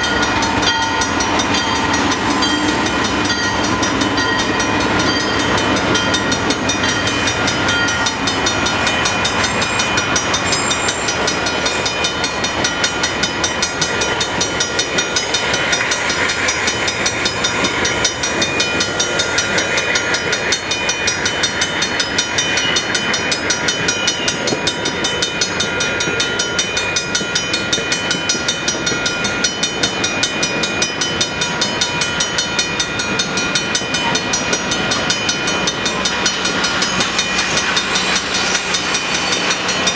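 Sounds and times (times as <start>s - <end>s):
crossing bell ringing: 0.0s - 39.9s
train wheels clacking over rails: 0.0s - 39.9s.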